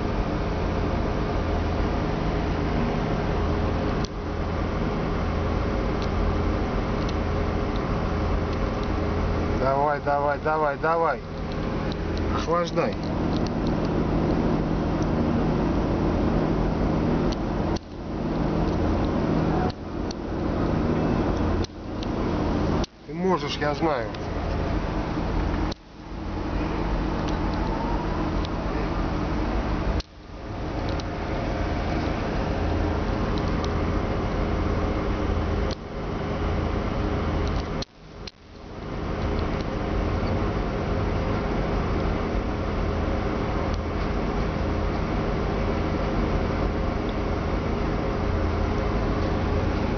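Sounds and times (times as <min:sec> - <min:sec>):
engine idling: 0:00.0 - 0:49.9
radiator cooling fan rushing: 0:00.0 - 0:49.9.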